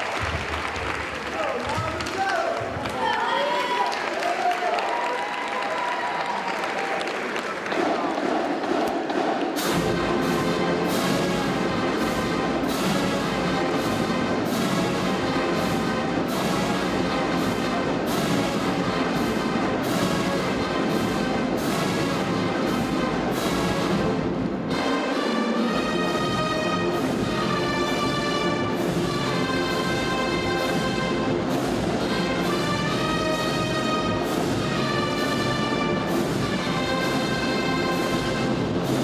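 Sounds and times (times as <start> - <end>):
brass instrumental music: 7.8 - 39.0.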